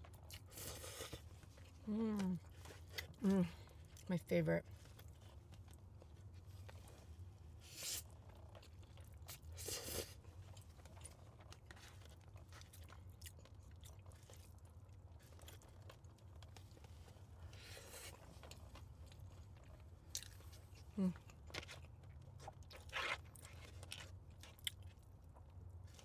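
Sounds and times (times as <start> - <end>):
close-up chewing of noodles: 0.0 - 4.1, 4.7 - 26.0.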